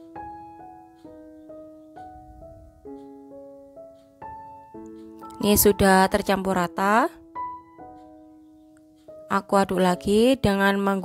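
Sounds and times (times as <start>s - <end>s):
soft piano-like melody: 0.0s - 11.0s.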